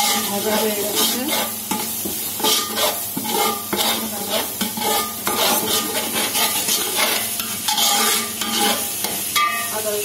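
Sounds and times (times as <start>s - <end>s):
spoon scraping pan: 0.0s - 9.8s
onion paste sizzling: 0.0s - 10.0s.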